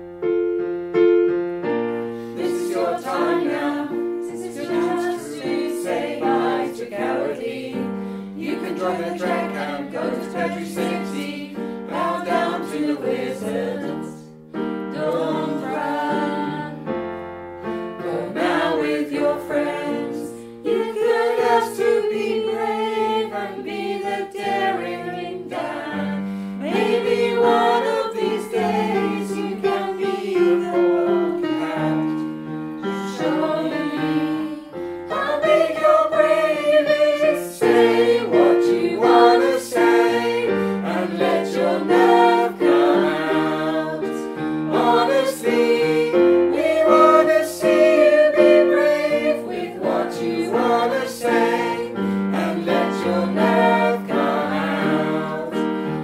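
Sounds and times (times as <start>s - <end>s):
piano accompaniment: 0.0s - 56.0s
choir singing: 2.0s - 56.0s.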